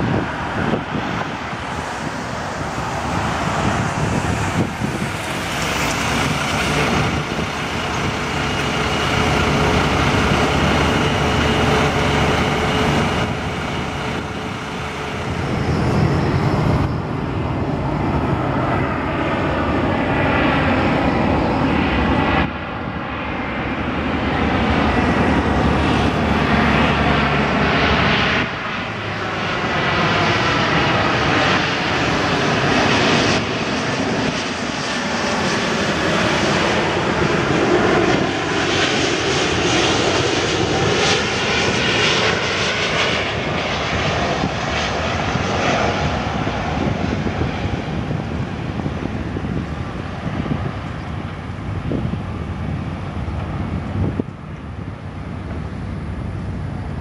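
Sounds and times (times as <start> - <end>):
jet airliner flying overhead: 0.0 - 57.0.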